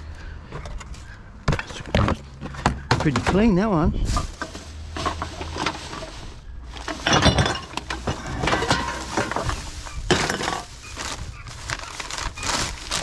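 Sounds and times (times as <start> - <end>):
cans and bottles clattering in a bin: 1.5 - 13.0.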